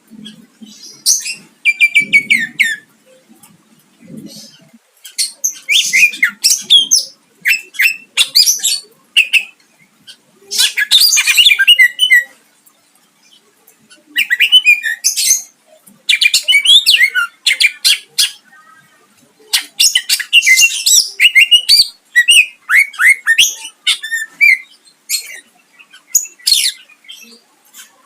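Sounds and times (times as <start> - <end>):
bird singing: 0.0 - 12.4, 13.2 - 28.0.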